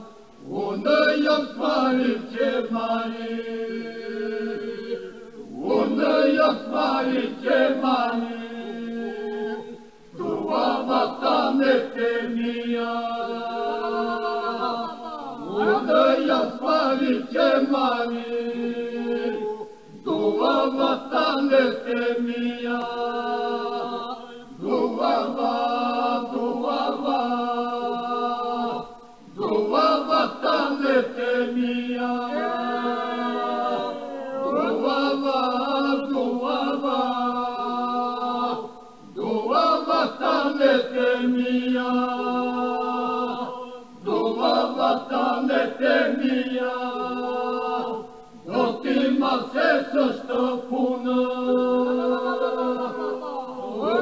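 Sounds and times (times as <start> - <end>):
group of voices chanting: 0.0 - 24.0, 24.6 - 54.0.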